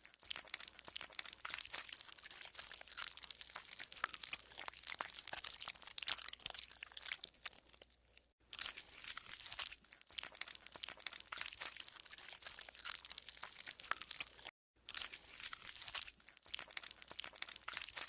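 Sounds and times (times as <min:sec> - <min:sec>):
slime squelching and popping: 0:00.0 - 0:18.0.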